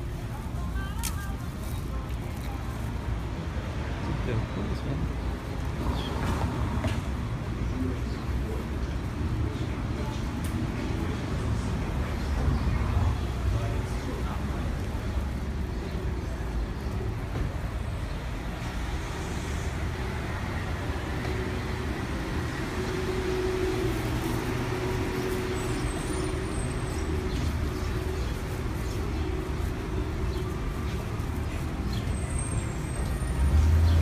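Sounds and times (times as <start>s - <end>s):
faint engine hum: 0.0s - 34.0s
passing cars rumbling: 3.0s - 34.0s.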